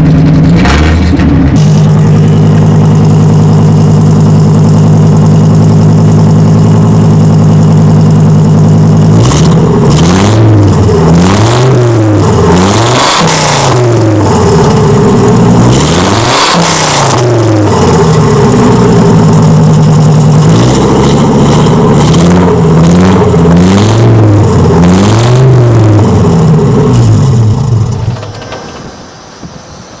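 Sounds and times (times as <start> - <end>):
car engine revving: 0.0 - 29.2.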